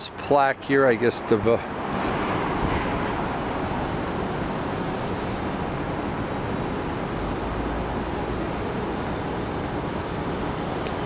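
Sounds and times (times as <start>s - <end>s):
distant traffic rumble: 0.0s - 11.0s
moving air: 1.0s - 11.0s.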